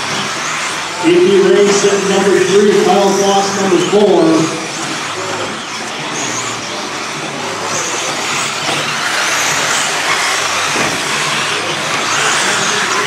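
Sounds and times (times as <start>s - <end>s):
high electric motor whine: 0.0s - 13.0s
tyre and drivetrain noise: 0.0s - 13.0s.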